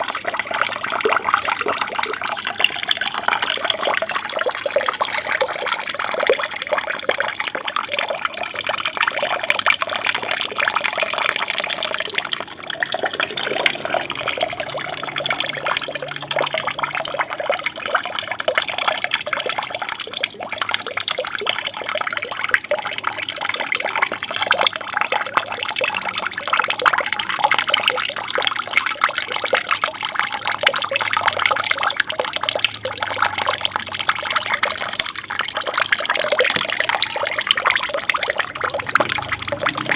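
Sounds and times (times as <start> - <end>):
water splashing into tank: 0.0 - 39.9.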